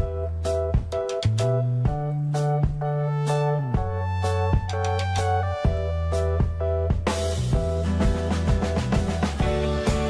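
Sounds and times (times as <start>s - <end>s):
steady drum beat: 0.0s - 3.0s, 4.6s - 10.0s
bass line: 0.0s - 10.0s
sustained keyboard chords: 0.0s - 10.0s.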